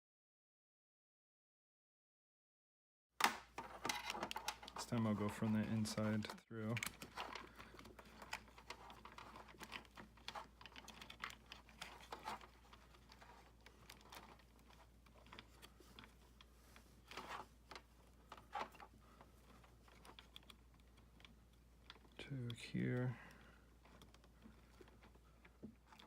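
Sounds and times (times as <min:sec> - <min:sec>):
cable clicks and rustles: 0:03.2 - 0:26.0.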